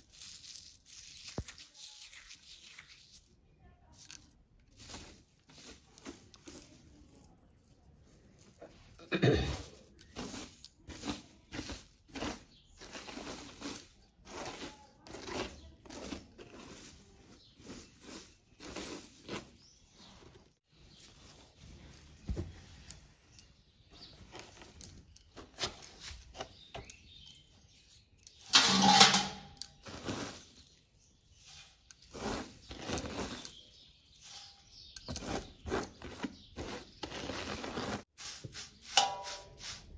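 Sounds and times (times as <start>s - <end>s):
dried leaves crackling and rustling: 0.0s - 39.9s.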